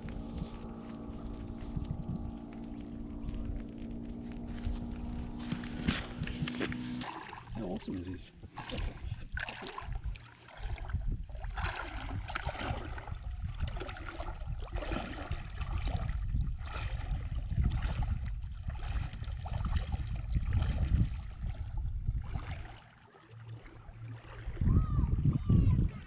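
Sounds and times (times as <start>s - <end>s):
wind rumbling on microphone: 0.0s - 22.8s, 23.5s - 26.0s
feet sloshing through water: 0.0s - 25.3s.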